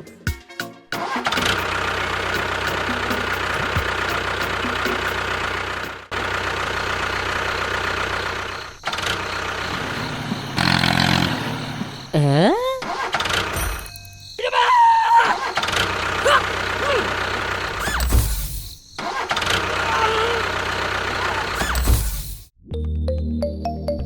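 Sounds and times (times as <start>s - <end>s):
vehicle engine running: 1.1s - 13.9s, 15.5s - 22.5s.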